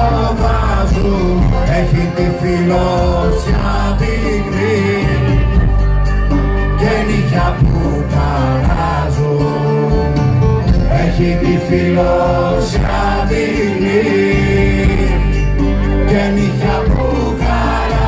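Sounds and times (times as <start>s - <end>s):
man singing: 0.0s - 5.8s, 6.6s - 18.0s
plucked string instruments: 0.0s - 18.0s.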